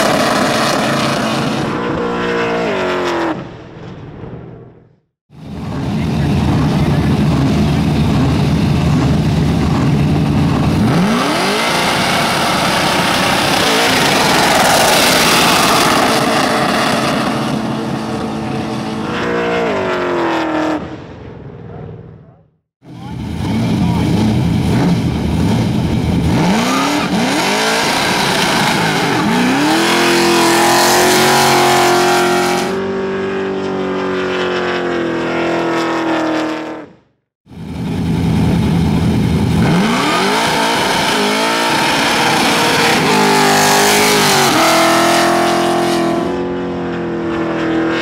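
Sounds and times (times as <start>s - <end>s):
car engine revving high: 5.6s - 21.2s, 23.0s - 37.0s, 38.3s - 48.0s.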